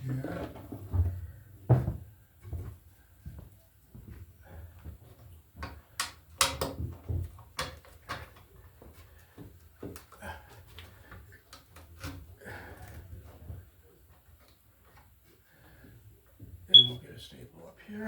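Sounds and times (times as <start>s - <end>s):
cable knocking and rustling: 0.0s - 2.8s, 4.8s - 16.7s.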